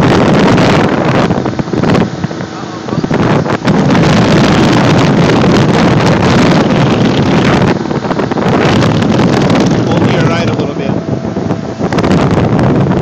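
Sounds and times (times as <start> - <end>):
motorboat engine: 0.0 - 13.0
wind on microphone: 0.0 - 13.0.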